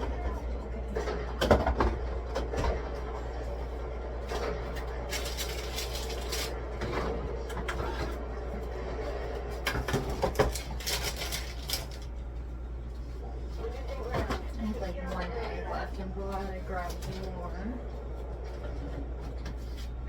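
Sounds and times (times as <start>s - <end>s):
groceries knocking and clattering: 0.0s - 8.8s, 9.4s - 12.4s, 13.6s - 20.0s
steady low hum: 0.0s - 20.0s.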